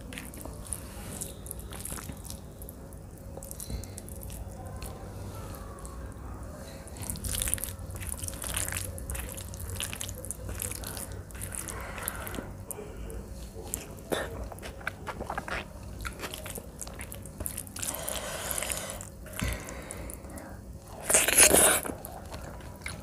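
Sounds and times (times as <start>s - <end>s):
chewing: 0.0s - 23.0s
fingers squelching wet food: 0.0s - 23.0s.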